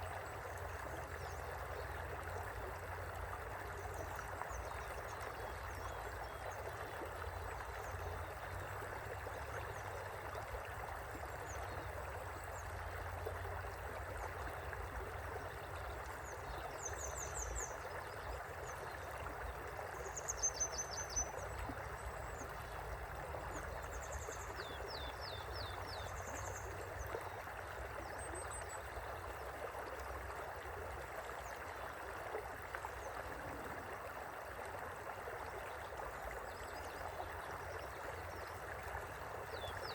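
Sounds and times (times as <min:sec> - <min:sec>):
river flowing gently: 0:00.0 - 0:39.9.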